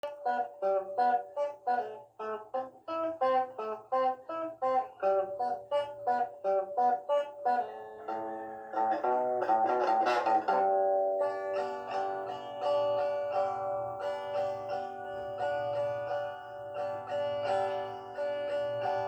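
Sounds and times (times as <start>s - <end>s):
guitar music: 0.0s - 19.0s.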